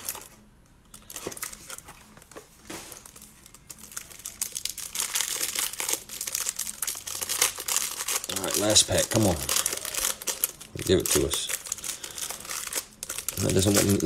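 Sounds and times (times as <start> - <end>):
plastic wrapper crinkling: 0.0 - 14.0.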